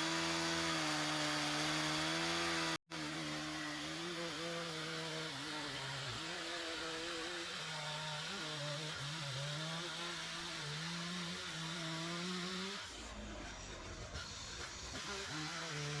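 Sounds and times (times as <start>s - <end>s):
chainsaw cutting wood: 0.0s - 13.2s, 14.5s - 16.0s.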